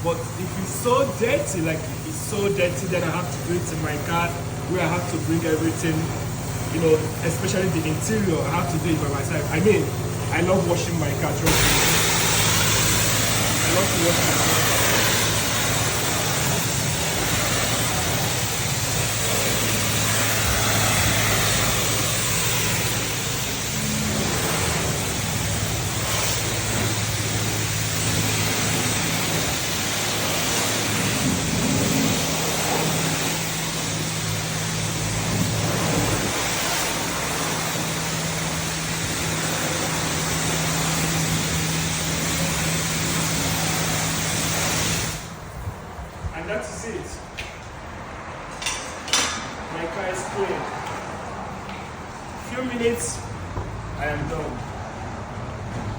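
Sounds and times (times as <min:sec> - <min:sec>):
water spray hissing on car: 0:00.0 - 0:45.4
pump motor humming: 0:00.0 - 0:45.8.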